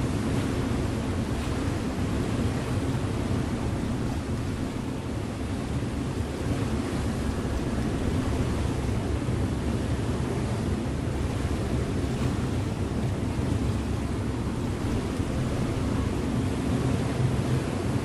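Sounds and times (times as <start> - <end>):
low engine drone: 0.0 - 18.0
water rushing: 0.0 - 18.0
wind: 0.0 - 18.0.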